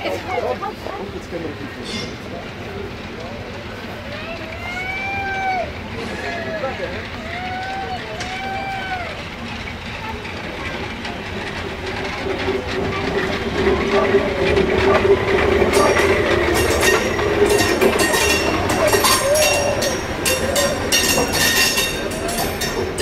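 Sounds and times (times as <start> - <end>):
steam locomotive rolling past: 0.0 - 23.0
wheels clicking over rail joints: 0.1 - 23.0.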